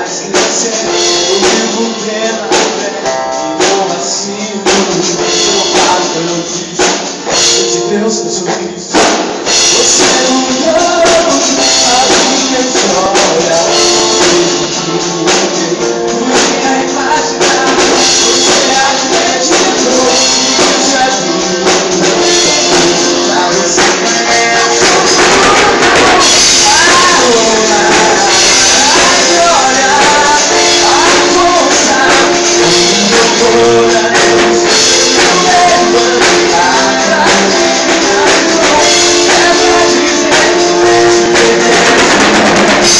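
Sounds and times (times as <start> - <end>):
gospel band music: 0.0 - 42.9.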